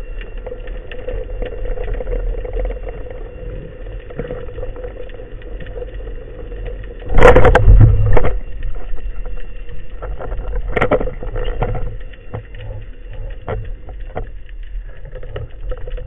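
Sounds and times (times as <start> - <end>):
faint hum: 0.0 - 16.0
underwater low rumble: 0.0 - 16.0.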